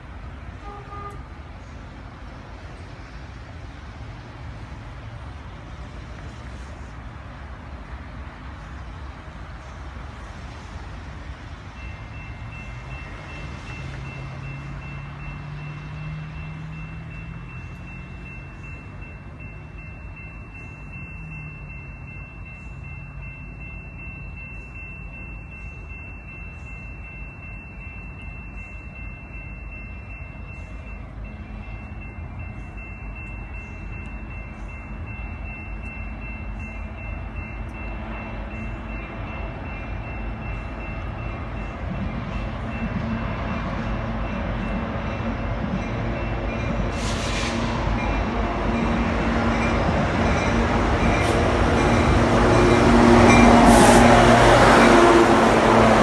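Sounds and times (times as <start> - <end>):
freight train rumbling: 0.0 - 56.0
crossing warning bell ringing: 7.9 - 56.0.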